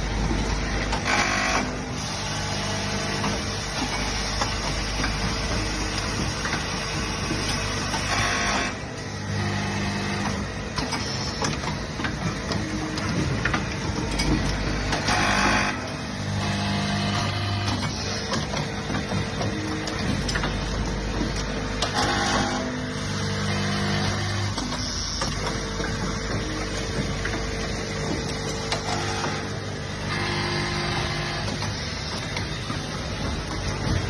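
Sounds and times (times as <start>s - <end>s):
machine humming: 0.0s - 34.0s.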